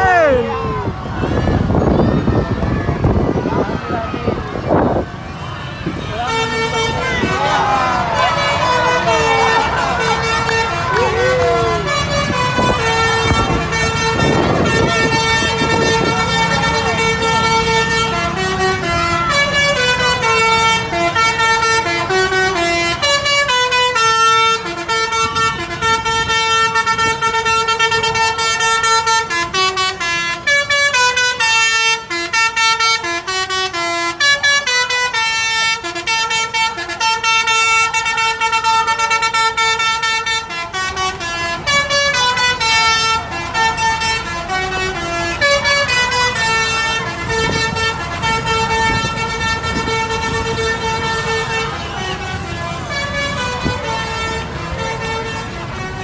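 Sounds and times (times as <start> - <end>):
bus musical horn playing a tune: 0.0 - 56.0.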